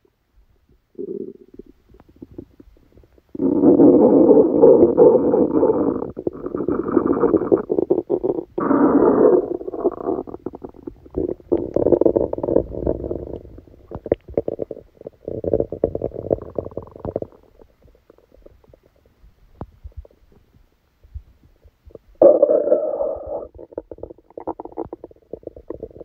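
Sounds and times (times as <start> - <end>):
stomach gurgling and rumbling: 0.6 - 26.0.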